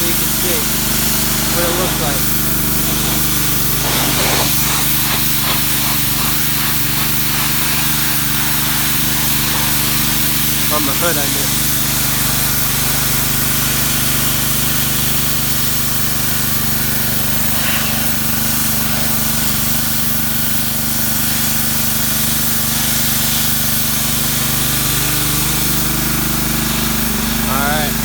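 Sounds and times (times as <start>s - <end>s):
pressure washer motor humming: 0.0s - 28.0s
water spray hissing: 0.0s - 28.0s.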